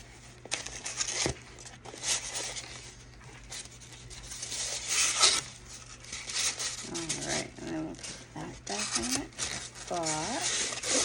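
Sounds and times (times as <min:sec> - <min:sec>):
packaging rustling: 0:00.4 - 0:11.0.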